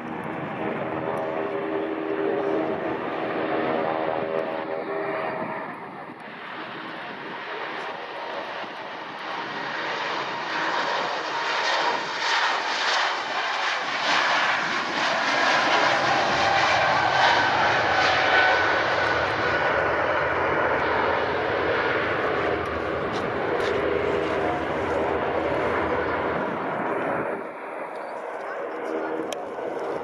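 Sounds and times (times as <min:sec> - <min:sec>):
airliner engines passing: 0:00.0 - 0:30.0.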